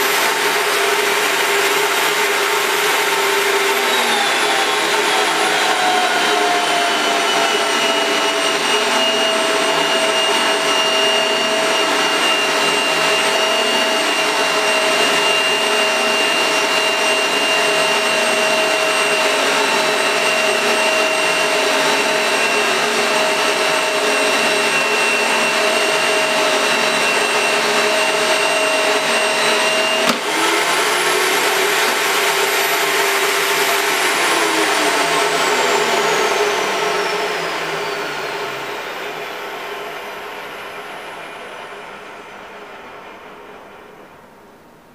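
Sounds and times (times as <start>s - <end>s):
pipe threading machine whine: 0.0s - 44.2s.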